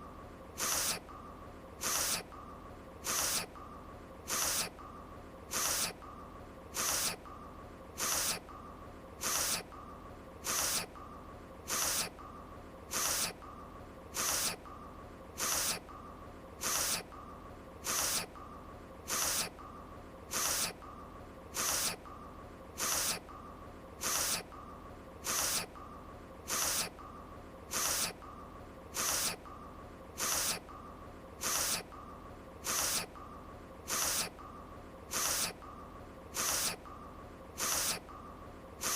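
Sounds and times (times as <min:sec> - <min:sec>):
faint steady tone: 0:00.0 - 0:38.9.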